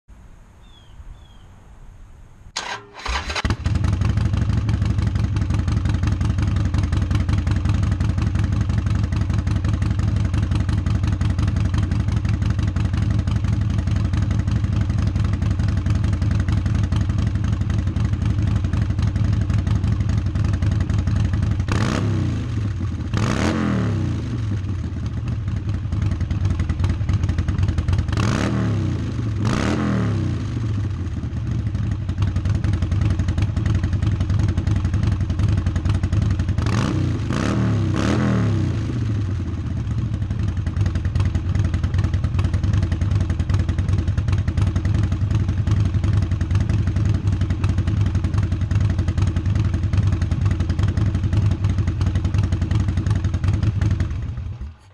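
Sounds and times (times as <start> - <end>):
motorcycle engine starting and idling: 2.5 - 54.9
motorcycle throttle blips: 2.5 - 54.9.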